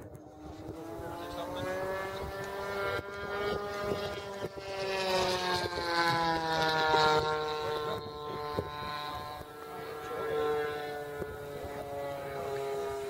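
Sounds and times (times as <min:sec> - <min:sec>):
model aircraft engine buzzing: 0:00.0 - 0:13.0.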